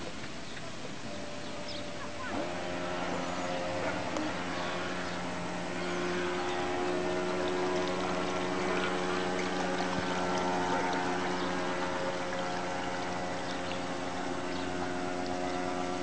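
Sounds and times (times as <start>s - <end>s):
electric motor whine: 0.8s - 16.0s.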